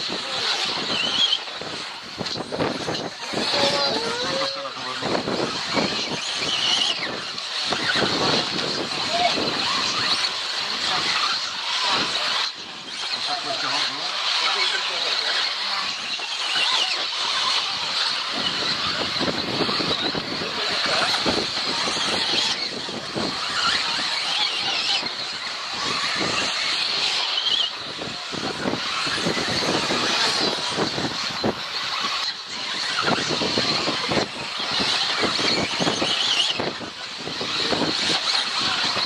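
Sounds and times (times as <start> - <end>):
rc car motor whine: 0.0 - 39.0.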